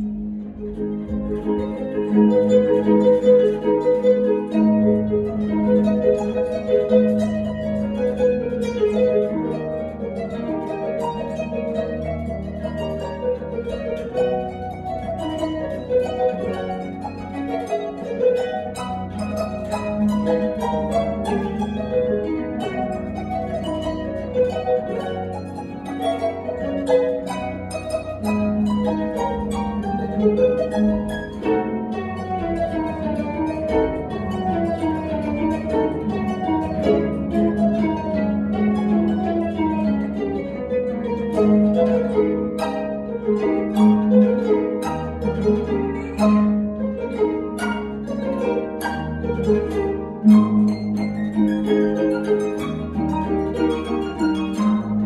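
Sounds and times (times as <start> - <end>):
harp playing rapid plucked notes: 0.0 - 55.0.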